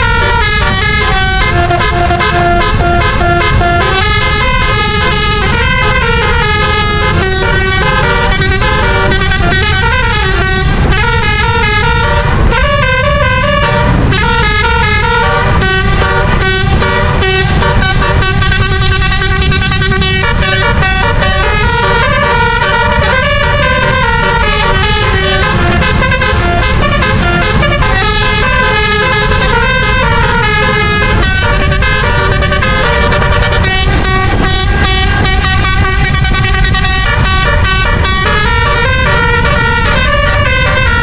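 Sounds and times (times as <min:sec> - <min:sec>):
musical air horn tune: 0:00.0 - 0:41.0.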